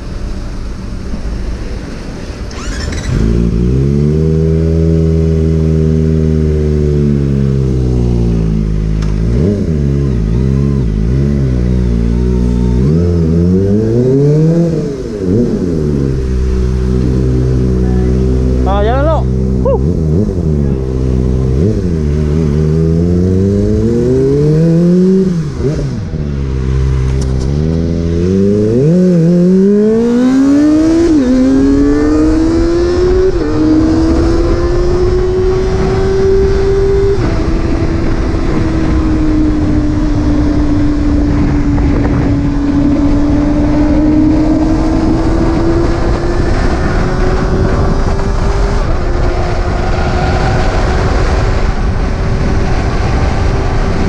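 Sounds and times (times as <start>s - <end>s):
wind and road noise: 0.0s - 54.0s
motorcycle engine accelerating: 0.7s - 54.0s.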